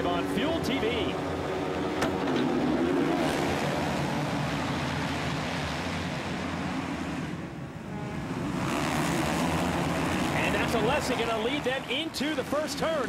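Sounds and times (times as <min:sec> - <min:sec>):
motocross engines roaring: 0:00.0 - 0:13.0.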